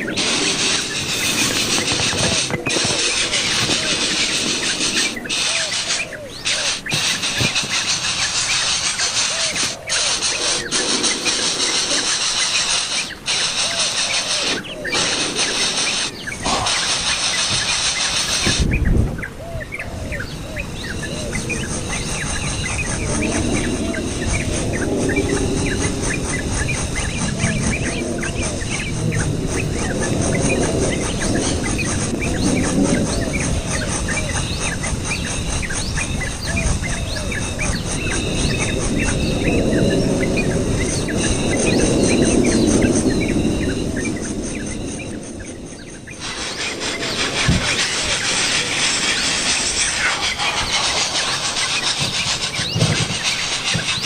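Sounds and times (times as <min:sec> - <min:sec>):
loud hissing rustle: 0:00.0 - 0:18.8, 0:20.2 - 0:54.0
small birds chirping: 0:00.0 - 0:54.0.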